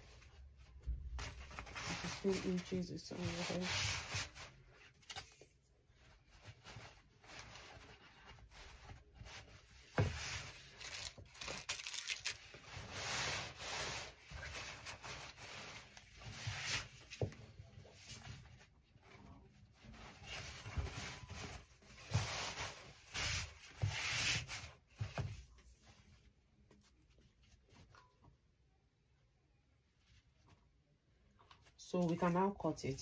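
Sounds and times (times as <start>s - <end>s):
fabric rustling and rubbing: 0.0s - 27.9s.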